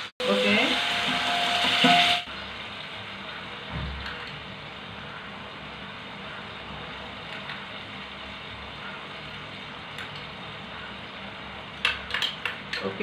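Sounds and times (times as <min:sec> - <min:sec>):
chicken frying in a pan: 0:00.0 - 0:13.0.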